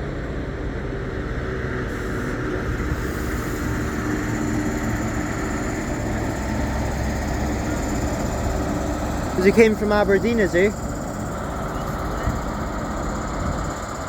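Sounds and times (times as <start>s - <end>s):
diesel train engine idling: 0.0s - 14.0s.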